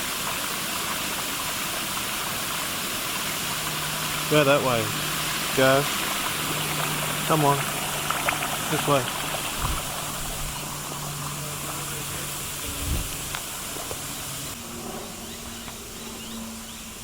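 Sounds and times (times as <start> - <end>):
rushing water: 0.0 - 14.6.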